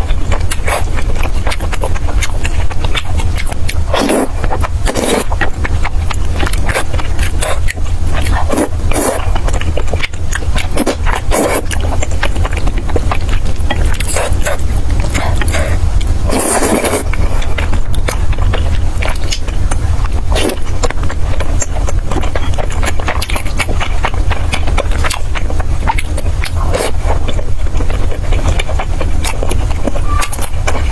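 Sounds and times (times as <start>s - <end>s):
slurping noodles: 0.0s - 25.2s, 25.8s - 27.3s
chewing: 0.0s - 30.9s
steady low rumble: 0.0s - 30.9s.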